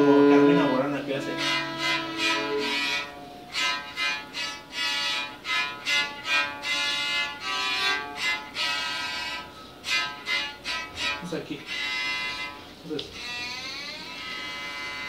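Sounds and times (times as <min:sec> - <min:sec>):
electric cello bowed: 0:00.0 - 0:15.0.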